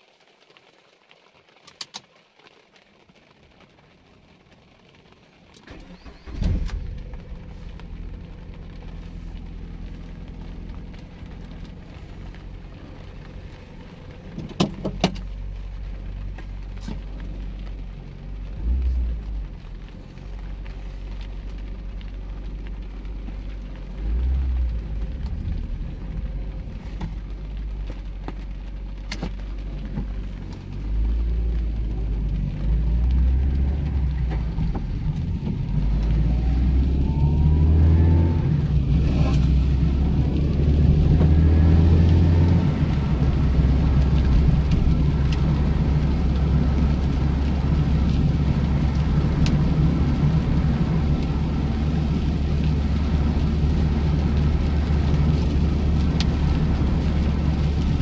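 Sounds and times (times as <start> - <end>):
car engine starting and idling: 4.3 - 58.0
car driving off: 5.6 - 58.0.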